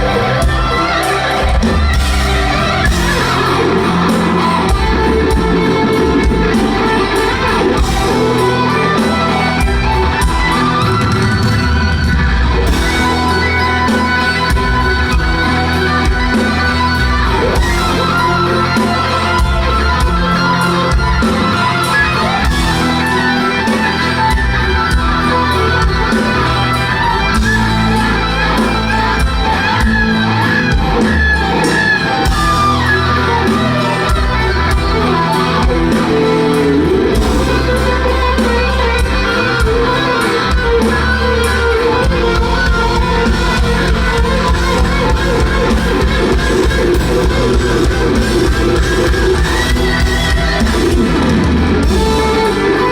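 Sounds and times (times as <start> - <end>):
electric guitar lead: 0.0 - 52.9
live rock band playing: 0.0 - 52.9.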